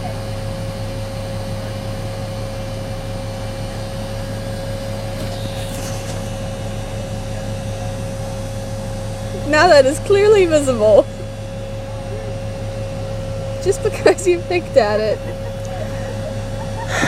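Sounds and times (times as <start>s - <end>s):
constant mid-pitched tone: 0.0s - 17.0s
mechanical hum: 0.0s - 17.0s.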